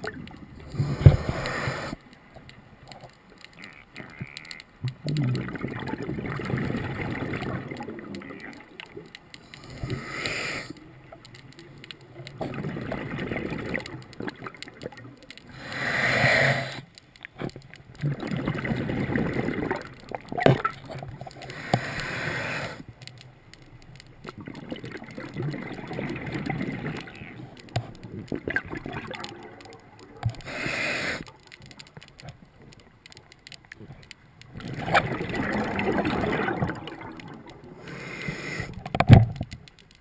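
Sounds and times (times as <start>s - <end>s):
water gurgling and sloshing: 0.0s - 40.0s.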